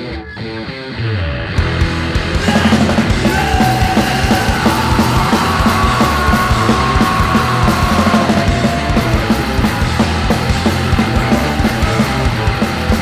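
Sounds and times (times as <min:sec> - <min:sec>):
punk band playing: 0:01.5 - 0:13.0.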